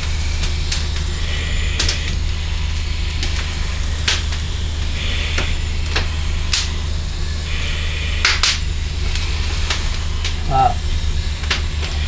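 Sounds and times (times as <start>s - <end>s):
fire crackling: 0.0s - 12.0s
steady low hum: 0.0s - 12.0s.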